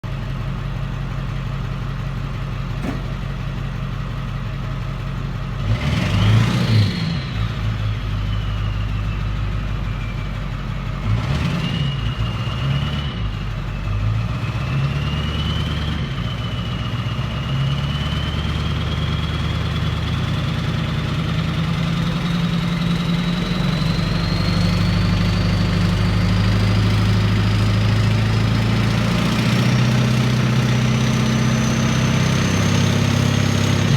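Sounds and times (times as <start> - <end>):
engine idling and revving: 0.0 - 33.9.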